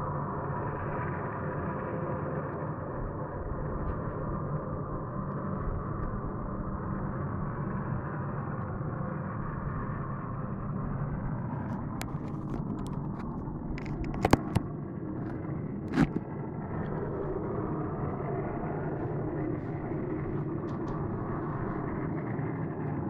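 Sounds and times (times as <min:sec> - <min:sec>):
low droning hum: 0:00.0 - 0:23.0.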